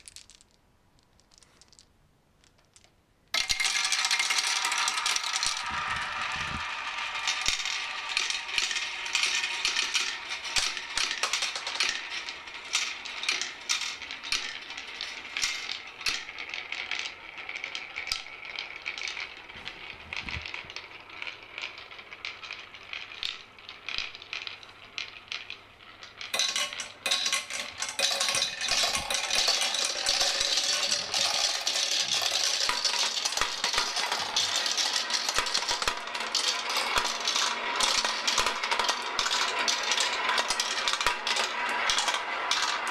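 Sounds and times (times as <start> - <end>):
marbles clattering down a marble run: 0.0 - 42.9.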